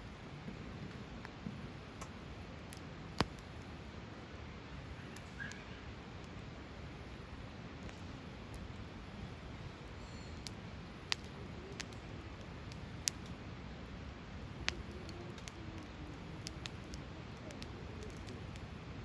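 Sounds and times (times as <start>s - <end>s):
burning wood crackling and popping: 0.0s - 19.0s
flame low rumble: 0.0s - 19.0s.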